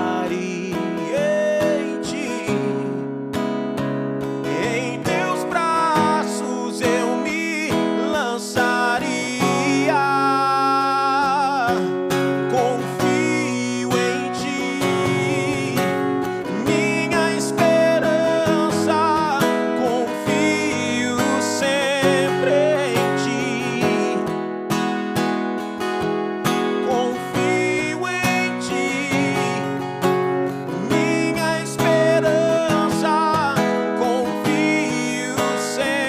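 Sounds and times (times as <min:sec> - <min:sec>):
man singing: 0:00.0 - 0:03.1, 0:04.4 - 0:36.0
strummed acoustic guitar: 0:00.0 - 0:36.0.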